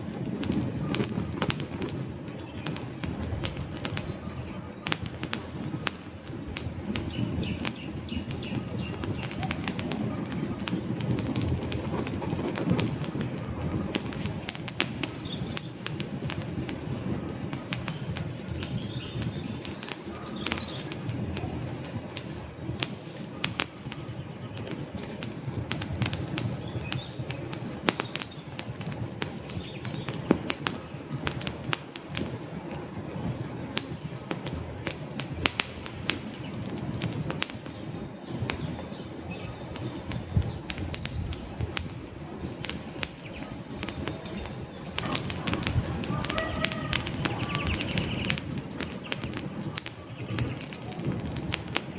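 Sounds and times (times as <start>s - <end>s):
campfire flames rushing: 0.0s - 51.9s
logs crackling and popping: 0.0s - 51.9s.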